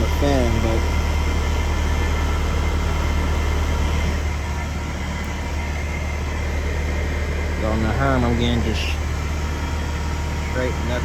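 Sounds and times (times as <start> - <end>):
condenser fan motor humming: 0.0 - 11.0.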